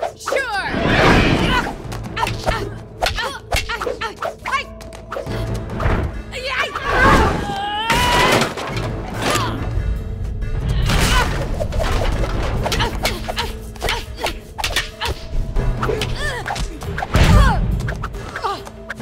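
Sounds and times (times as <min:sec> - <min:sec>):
film music: 0:00.0 - 0:19.0.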